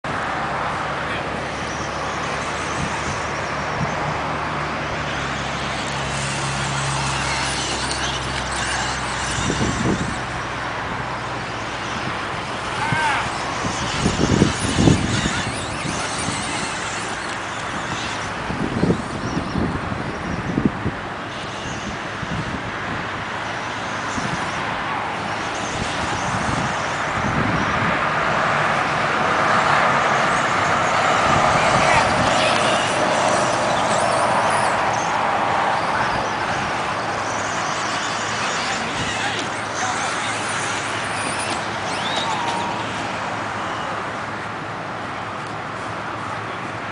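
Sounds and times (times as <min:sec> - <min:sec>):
rc car motors whining: 0:00.2 - 0:46.6.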